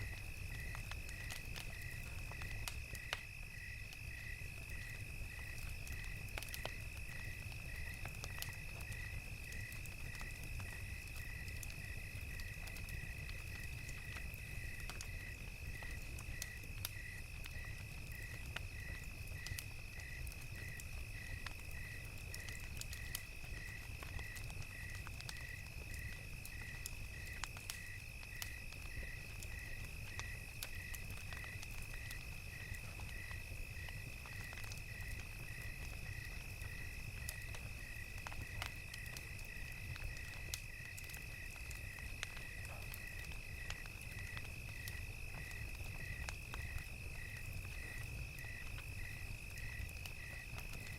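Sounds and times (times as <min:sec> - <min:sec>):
crickets chirping: 0:00.0 - 0:50.9
wood fire crackling: 0:00.0 - 0:50.9.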